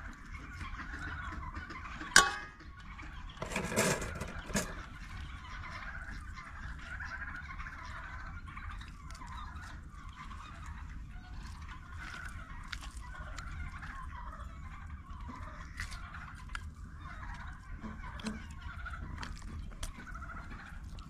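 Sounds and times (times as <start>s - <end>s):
farmyard fowl calling: 0.0s - 21.0s
scraping and handling meat: 0.0s - 21.0s.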